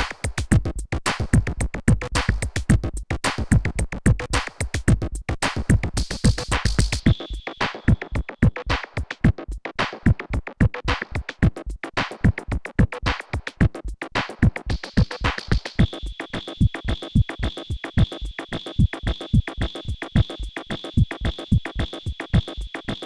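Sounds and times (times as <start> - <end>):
electronic drum machine beat: 0.0 - 23.0.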